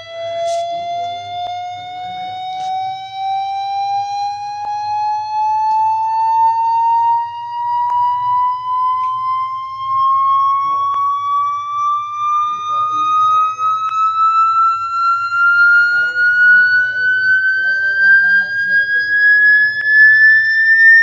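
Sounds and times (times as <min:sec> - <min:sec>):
electronic tone sweeping upward: 0:00.0 - 0:21.0.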